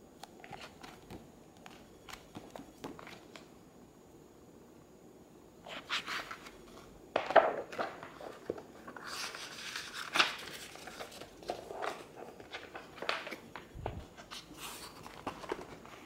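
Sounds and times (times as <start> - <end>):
book pages rustling and turning: 0.2 - 3.5, 5.7 - 16.0.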